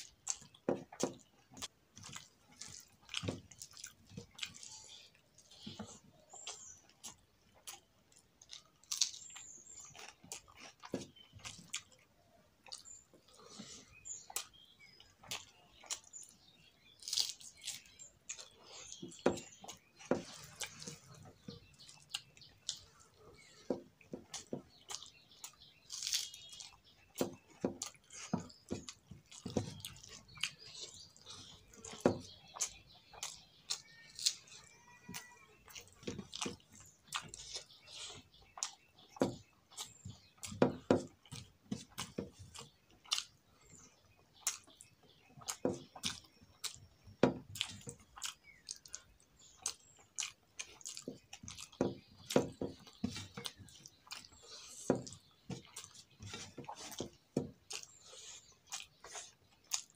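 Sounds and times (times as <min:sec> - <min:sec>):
wet chewing and lip smacks: 0:00.0 - 0:59.9.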